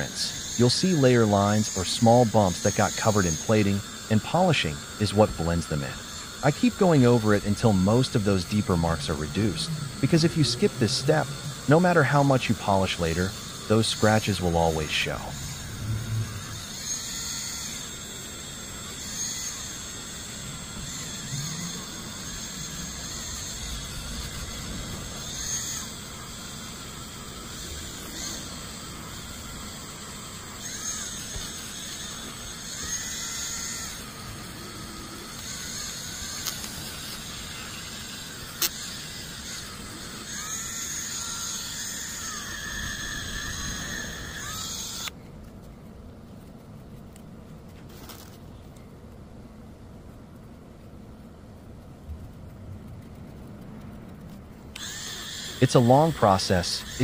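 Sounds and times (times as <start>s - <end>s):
rotary tool whining: 0.0s - 57.0s.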